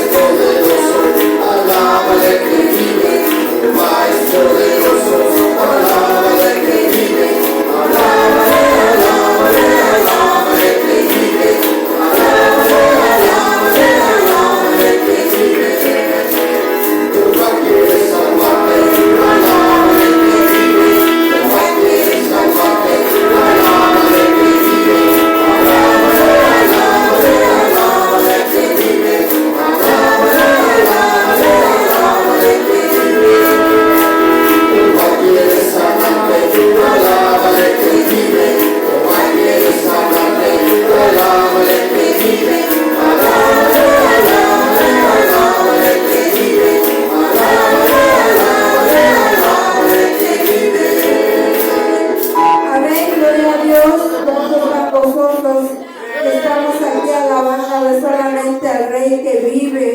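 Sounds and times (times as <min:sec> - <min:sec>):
tambourine beat: 0:00.0 - 0:54.0
congregation singing: 0:00.0 - 0:59.9.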